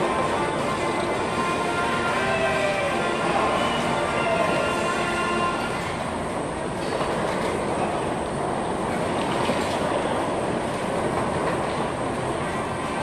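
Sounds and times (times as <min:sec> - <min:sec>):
carousel machinery running: 0:00.0 - 0:13.0.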